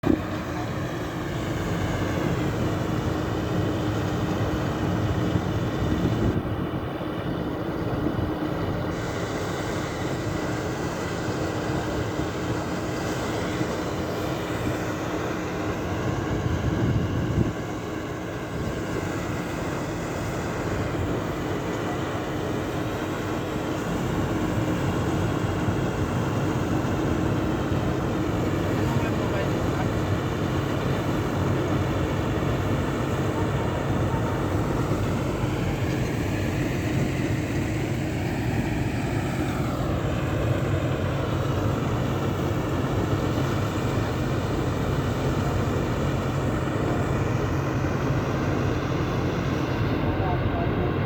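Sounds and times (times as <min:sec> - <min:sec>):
diesel farm machinery engine drone: 0:00.0 - 0:51.0.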